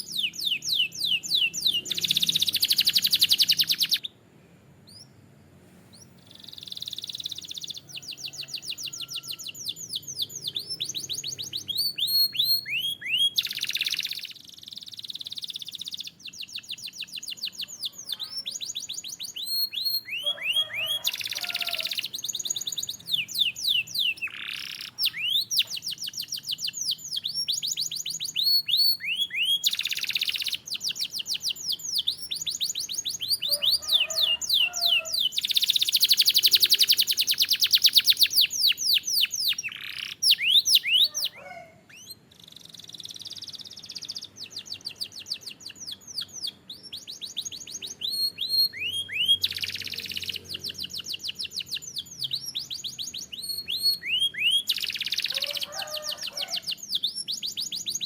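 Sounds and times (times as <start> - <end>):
canary singing trills: 0.0 - 4.2, 4.8 - 5.2, 5.9 - 58.0.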